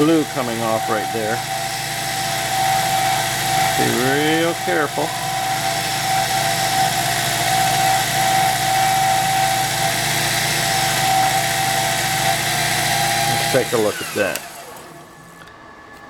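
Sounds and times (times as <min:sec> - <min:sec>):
cutting tool facing material: 0:00.0 - 0:15.5
lathe whining: 0:00.0 - 0:16.0.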